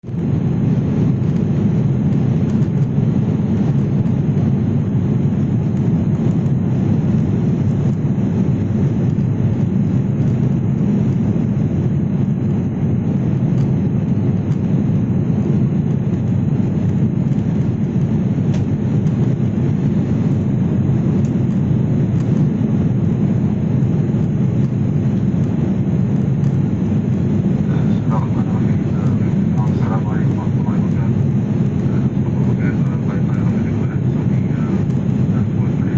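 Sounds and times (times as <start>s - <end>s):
aircraft engines rumbling: 0.0s - 35.9s.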